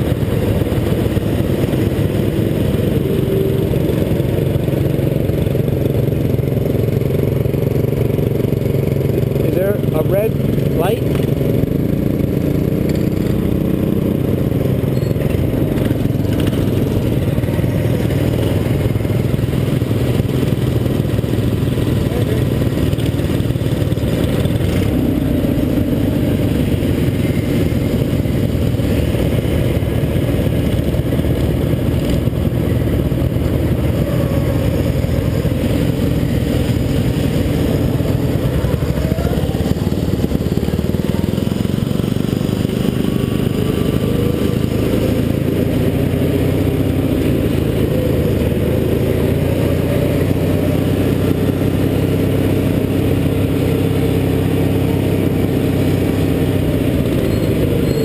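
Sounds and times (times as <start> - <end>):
lawn mower engine running: 0.0 - 58.0
other mower engines: 0.0 - 58.0.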